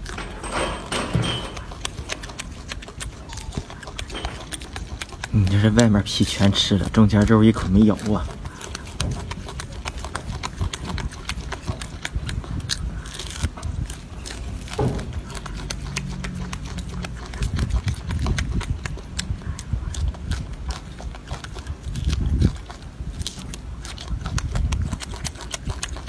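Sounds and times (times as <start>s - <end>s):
monkey chewing wetly: 0.0s - 26.0s.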